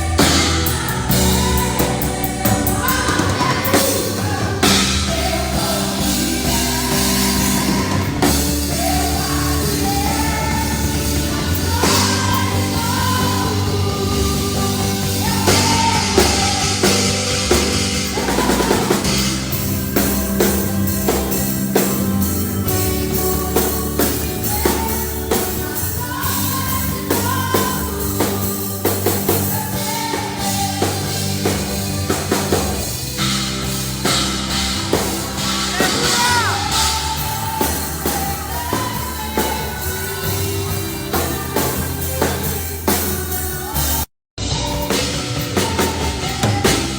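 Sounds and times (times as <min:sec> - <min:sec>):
person singing: 0:00.0 - 0:32.6, 0:34.9 - 0:46.9
drum kit beat: 0:00.0 - 0:46.9
low bass notes: 0:00.0 - 0:46.9
rock band playing: 0:00.0 - 0:46.9.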